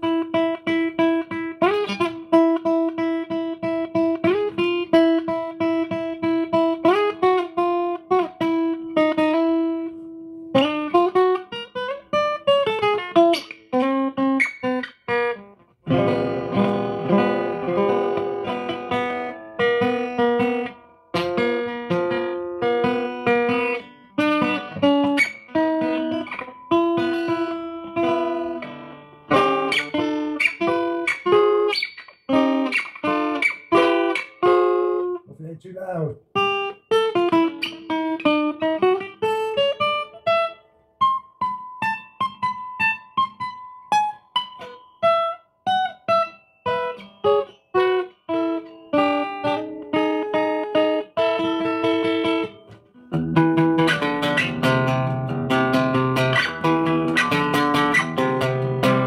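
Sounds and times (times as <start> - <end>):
picked solo guitar: 0.0 - 59.0.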